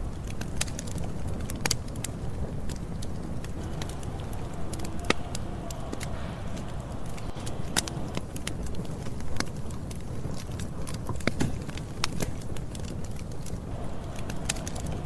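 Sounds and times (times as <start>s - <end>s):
burning wood popping and crackling: 0.0s - 15.0s
flames rushing: 0.0s - 15.0s.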